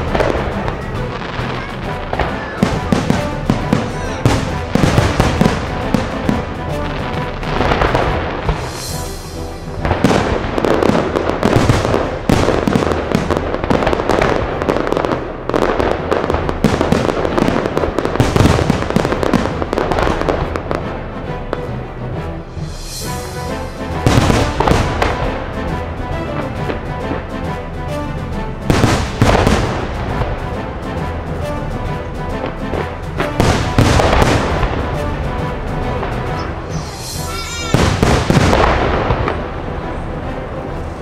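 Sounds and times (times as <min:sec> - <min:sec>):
firework bangs and crackling: 0:00.0 - 0:21.8, 0:22.5 - 0:41.0
music playing: 0:00.0 - 0:41.0.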